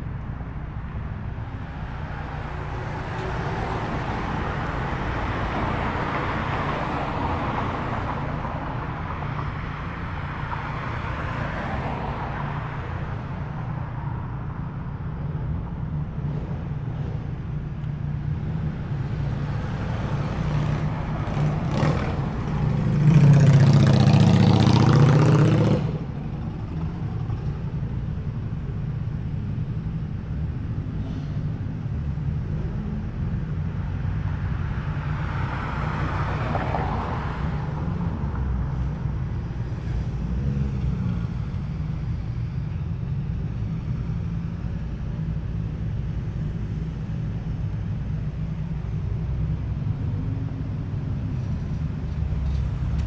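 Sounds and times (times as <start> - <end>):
car engine rumble: 0.0 - 53.0.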